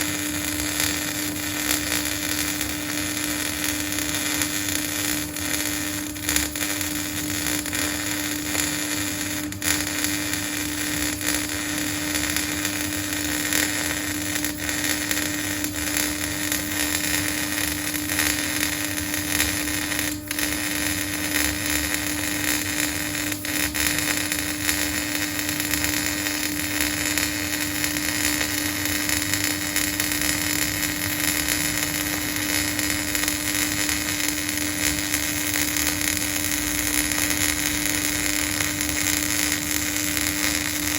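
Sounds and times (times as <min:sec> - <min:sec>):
welding arc crackling hiss: 0:00.0 - 0:40.9.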